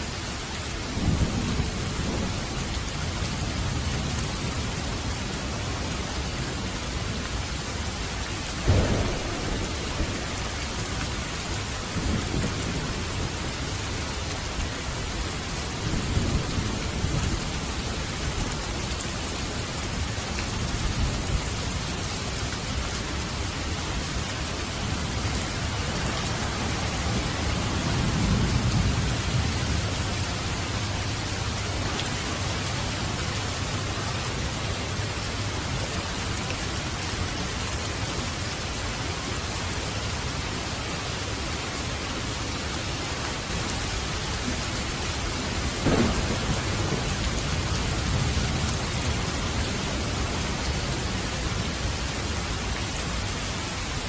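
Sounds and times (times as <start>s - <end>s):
heavy rain falling: 0.0s - 54.0s
low thunder rumbling: 0.9s - 35.8s, 42.6s - 53.2s.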